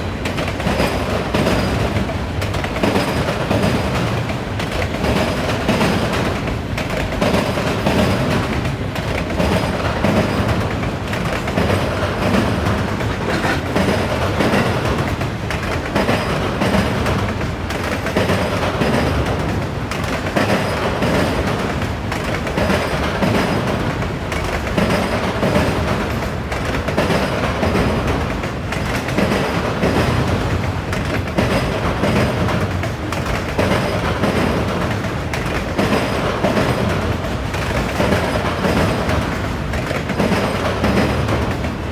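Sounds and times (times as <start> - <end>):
train wheels hammering over crossing: 0.0 - 41.9.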